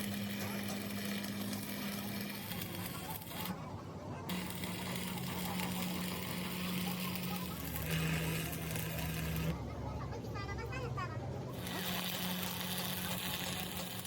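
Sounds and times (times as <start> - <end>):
machine motor humming: 0.0 - 3.6, 4.3 - 9.7, 11.5 - 14.0.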